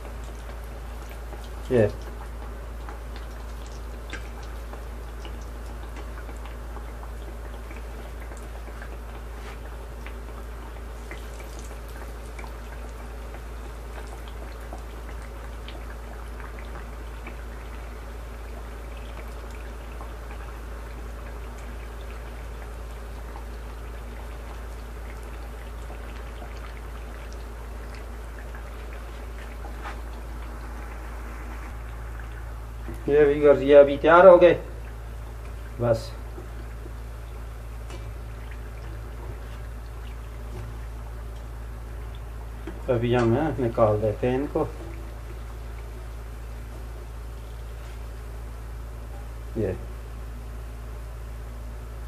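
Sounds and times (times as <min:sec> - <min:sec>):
pastries deep-frying in oil: 0:00.0 - 0:52.0.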